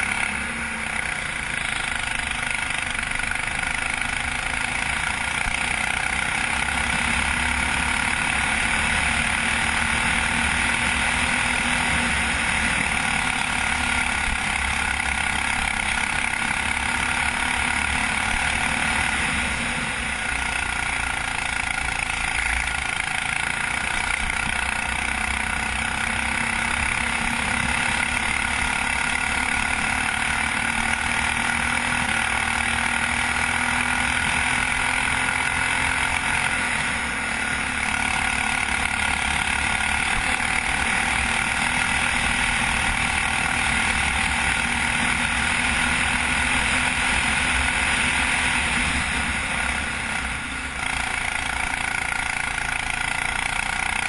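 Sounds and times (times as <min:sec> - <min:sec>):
racing kart engine running hard: 0:00.0 - 0:54.0.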